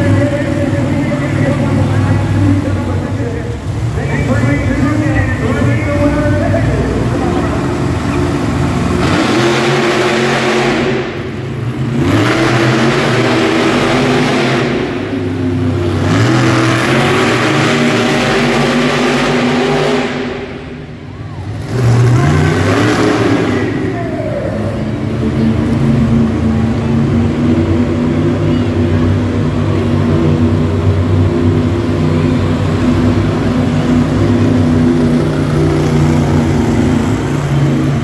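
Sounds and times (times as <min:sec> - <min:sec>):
monster truck engines revving: 0:00.0 - 0:38.0.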